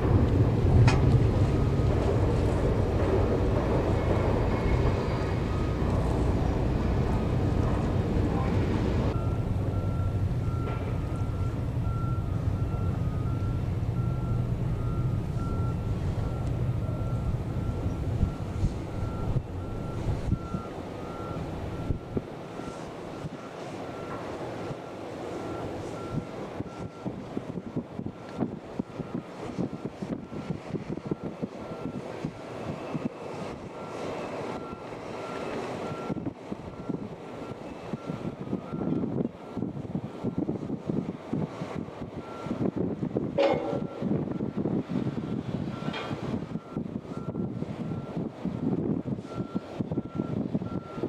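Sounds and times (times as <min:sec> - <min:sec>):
boat engines rumbling: 0:00.0 - 0:51.0
wind buffeting microphone: 0:00.0 - 0:51.0.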